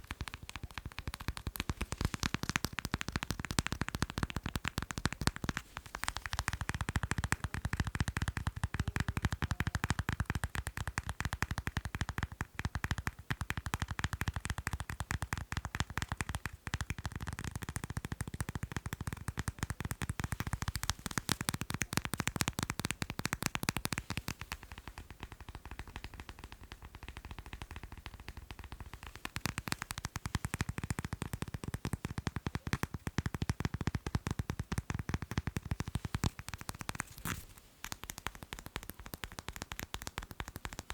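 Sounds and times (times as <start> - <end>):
finger tapping on macarons: 0.0 - 40.9.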